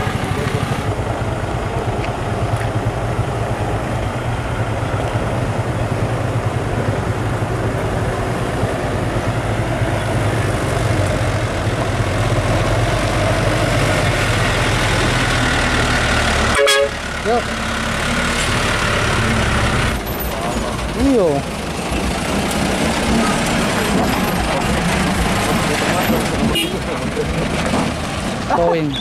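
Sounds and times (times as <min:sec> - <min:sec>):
diesel truck engine driving slowly: 0:00.0 - 0:29.0.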